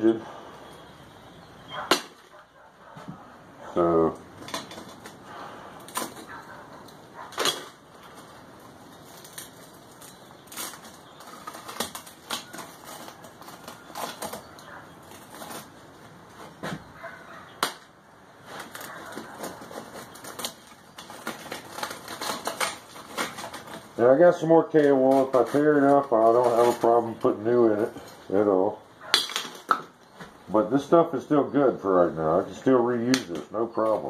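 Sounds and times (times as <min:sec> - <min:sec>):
cement cracking and clicking: 0:01.7 - 0:03.2, 0:03.8 - 0:30.9, 0:32.6 - 0:34.0.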